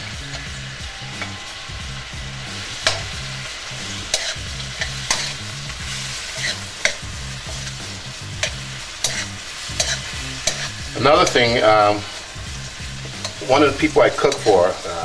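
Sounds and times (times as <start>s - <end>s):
food sizzling in skillet: 0.0s - 15.0s.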